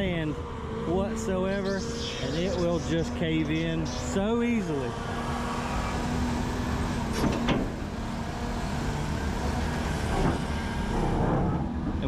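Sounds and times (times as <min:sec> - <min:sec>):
heavy diesel machinery rumbling: 0:00.0 - 0:12.0.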